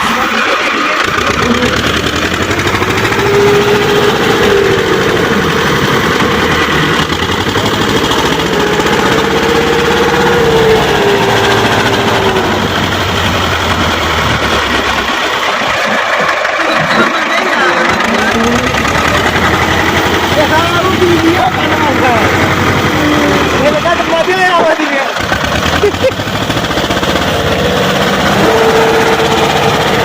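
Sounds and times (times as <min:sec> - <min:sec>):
tractor diesel engine straining: 0:00.0 - 0:30.0.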